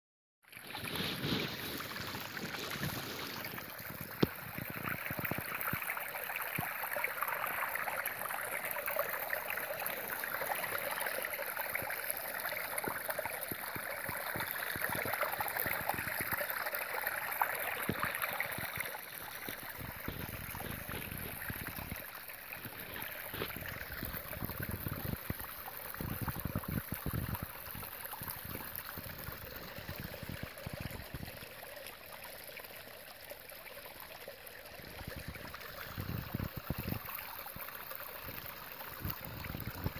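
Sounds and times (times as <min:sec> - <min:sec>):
brook trickling under snow: 0:00.4 - 0:39.9.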